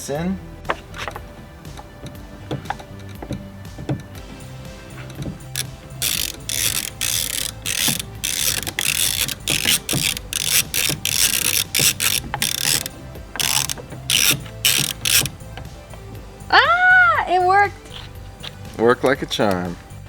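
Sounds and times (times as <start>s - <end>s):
socket ratchet clicking: 0.7s - 16.2s, 17.8s - 20.0s.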